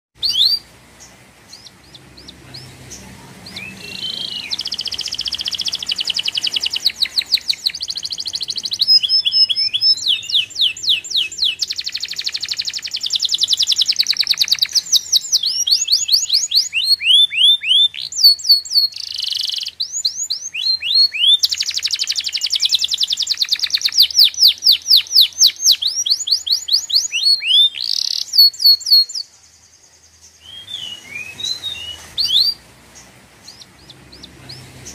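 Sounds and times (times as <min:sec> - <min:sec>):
songbird singing trills: 0:00.2 - 0:34.9.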